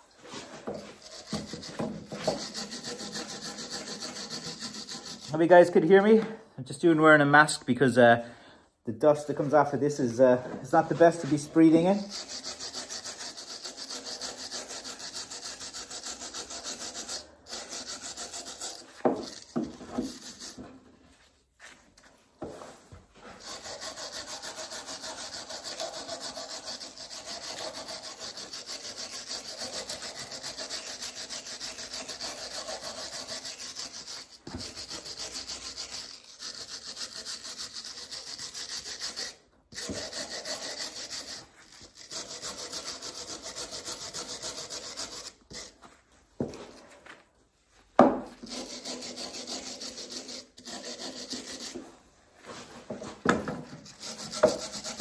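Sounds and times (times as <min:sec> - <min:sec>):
wire brush scrubbing wood: 0:00.0 - 0:06.0, 0:09.4 - 0:20.7, 0:22.6 - 0:45.8, 0:48.4 - 0:55.0.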